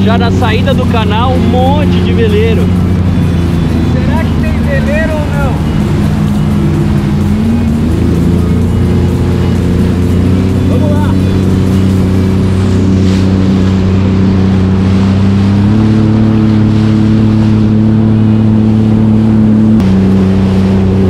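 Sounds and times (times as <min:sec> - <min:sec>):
jet ski engine running: 0:00.0 - 0:21.0
water rushing: 0:00.0 - 0:21.0.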